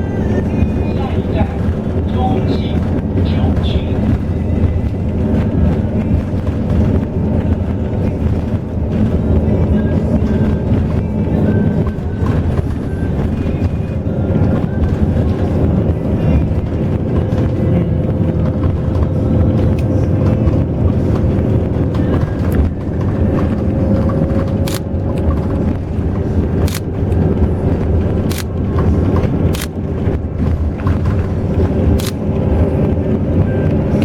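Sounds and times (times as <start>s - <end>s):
vehicle rumble from on board: 0.0s - 34.0s
sharp clicks or rattles: 2.7s - 32.3s.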